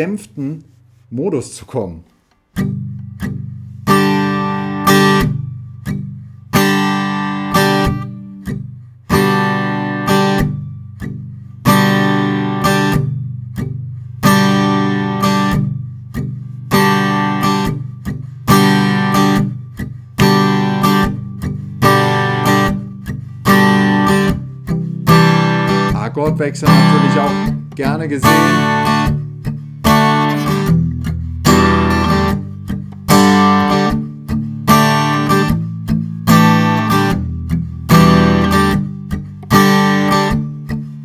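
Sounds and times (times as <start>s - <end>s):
acoustic guitar strumming: 2.2s - 41.0s.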